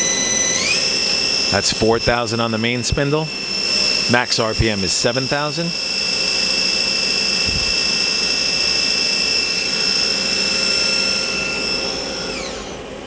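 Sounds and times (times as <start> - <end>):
lathe spindle high-pitched whine: 0.0 - 13.0.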